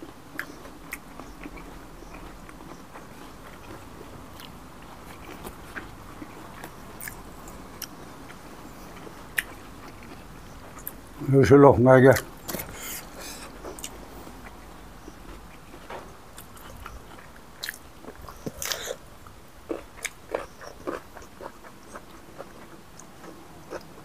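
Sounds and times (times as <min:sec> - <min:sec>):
food crunching: 0:00.0 - 0:11.0, 0:12.1 - 0:24.0
people chewing food: 0:00.0 - 0:11.3, 0:12.1 - 0:24.0.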